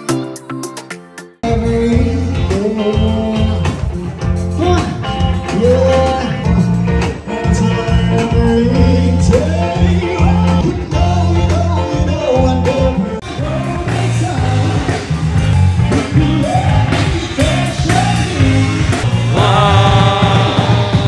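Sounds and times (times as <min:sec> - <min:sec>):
bass guitar: 0:00.0 - 0:21.0
drums: 0:00.0 - 0:21.0
electric guitar: 0:00.0 - 0:21.0
person singing: 0:01.4 - 0:15.3, 0:15.9 - 0:21.0.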